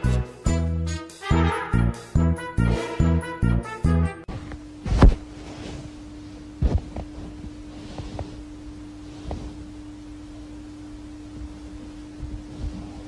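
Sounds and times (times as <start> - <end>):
steady low hum: 1.8 - 13.0.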